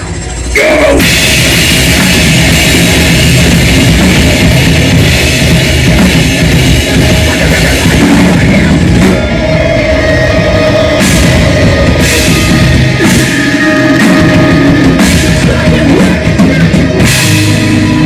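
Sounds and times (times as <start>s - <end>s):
electric guitars: 0.0s - 18.0s
pounding drum kit: 0.0s - 18.0s.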